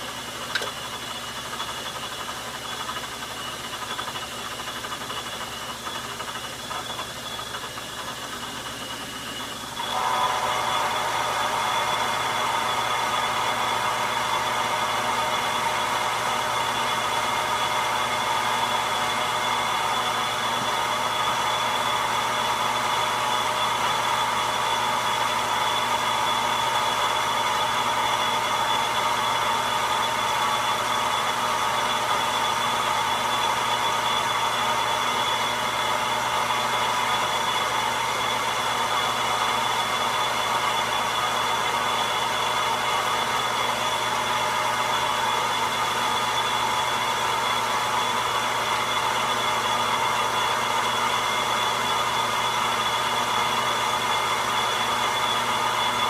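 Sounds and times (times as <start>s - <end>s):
metal lathe whirring: 0.0s - 56.0s.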